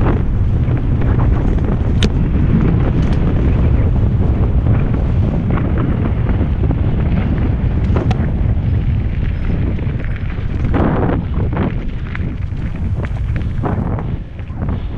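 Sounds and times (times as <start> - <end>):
bike rattling over dirt trail: 0.0 - 14.9
wind buffeting microphone: 0.0 - 14.9.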